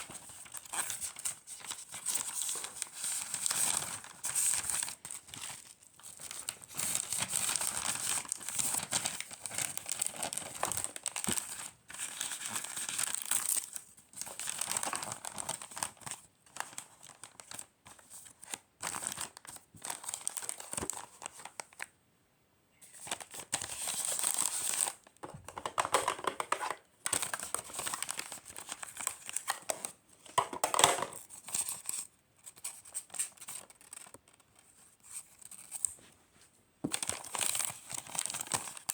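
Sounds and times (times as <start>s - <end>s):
wrapping material crinkling and tearing: 0.0s - 21.9s, 22.9s - 25.2s, 26.5s - 36.1s, 36.8s - 38.9s.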